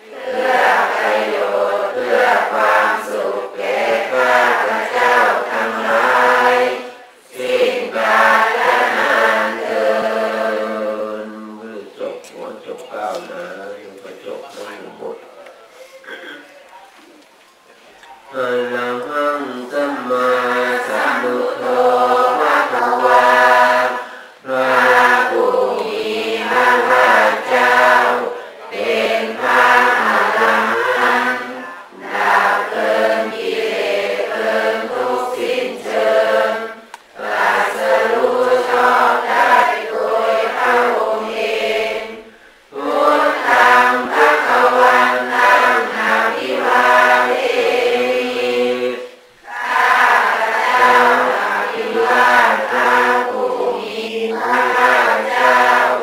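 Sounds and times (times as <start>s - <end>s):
men chanting together: 0.0s - 11.8s, 18.3s - 56.0s.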